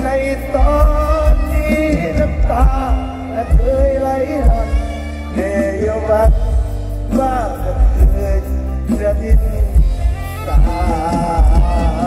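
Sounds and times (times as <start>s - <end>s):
band music with heavy bass beat: 0.0s - 12.0s.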